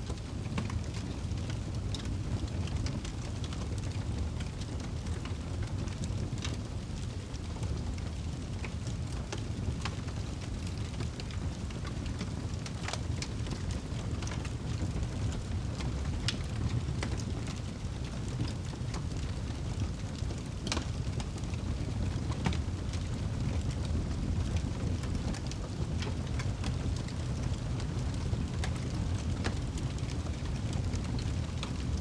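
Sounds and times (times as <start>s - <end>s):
low rumble of flames: 0.0s - 32.0s
fire popping and snapping: 0.1s - 32.0s.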